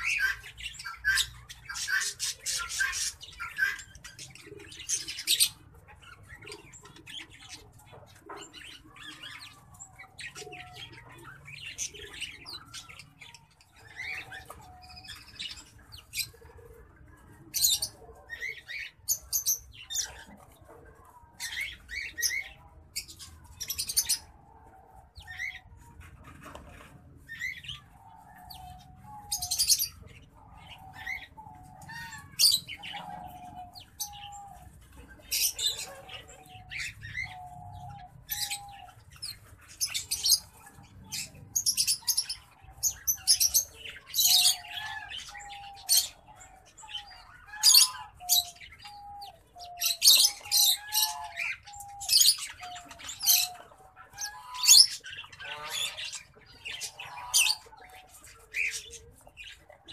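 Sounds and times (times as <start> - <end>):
finches chirping and singing: 0.0 - 16.5, 17.5 - 20.4, 21.2 - 24.4, 27.2 - 59.9.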